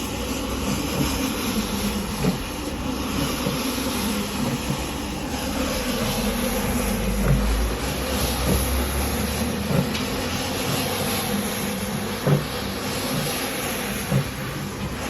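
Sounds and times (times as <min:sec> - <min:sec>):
cleaning machine hissing: 0:00.0 - 0:15.0.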